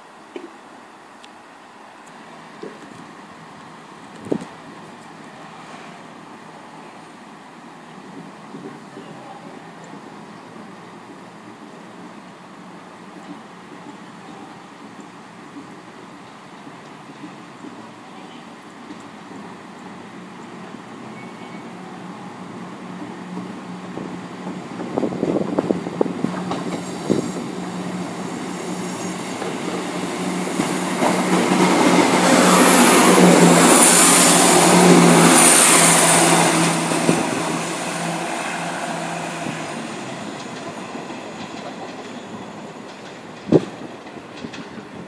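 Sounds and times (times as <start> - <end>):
passenger train passing: 0.0 - 45.0.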